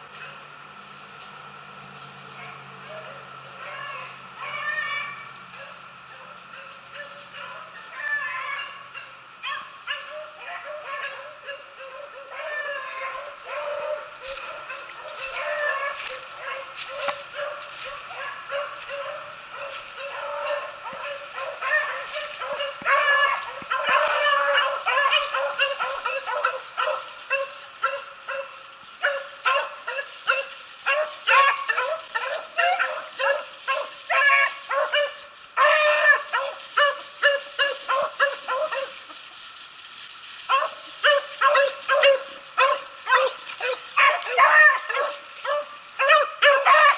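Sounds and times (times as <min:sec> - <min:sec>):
dogs baying and yelping: 0:02.4 - 0:39.3, 0:40.2 - 0:46.9.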